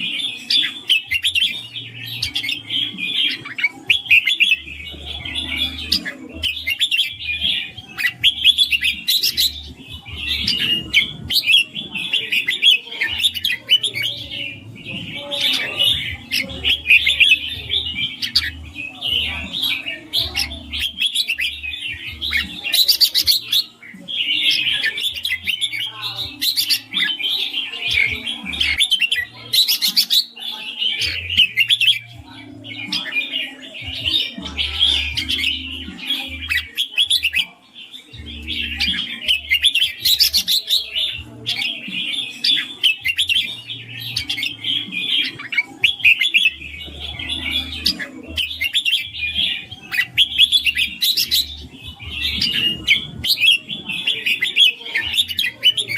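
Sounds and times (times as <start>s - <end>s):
bird singing bright chirping phrases: 0.0s - 55.9s.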